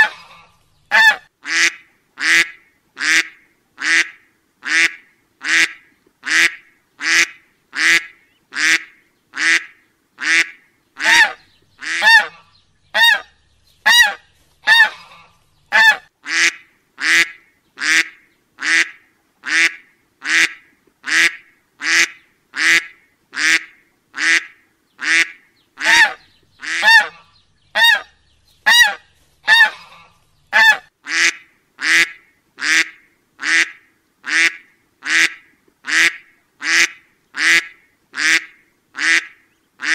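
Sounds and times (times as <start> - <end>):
duck quacking: 0.0 - 39.9.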